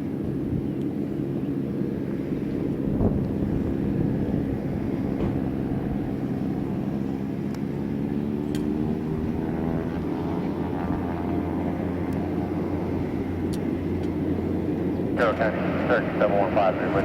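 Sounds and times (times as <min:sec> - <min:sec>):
propeller airplane engine: 0:00.0 - 0:17.0.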